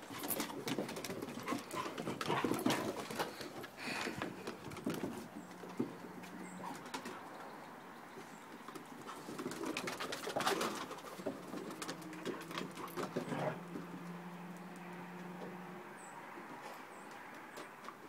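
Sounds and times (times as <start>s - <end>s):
dog claws clicking on wooden deck: 0.0s - 15.6s.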